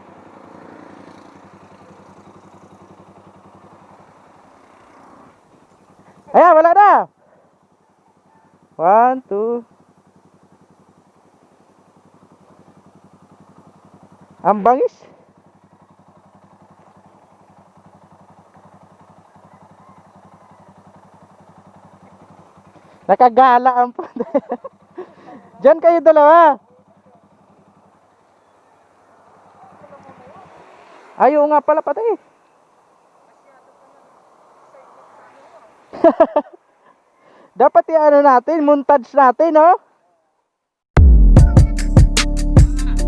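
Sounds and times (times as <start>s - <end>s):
motorcycle engine idling: 0.0s - 36.4s.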